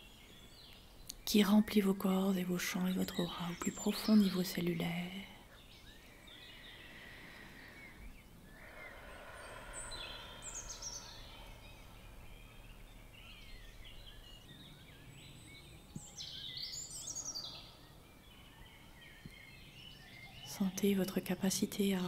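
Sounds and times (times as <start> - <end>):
birds chirping: 0.0 - 22.0
soft steady hiss: 0.0 - 22.0.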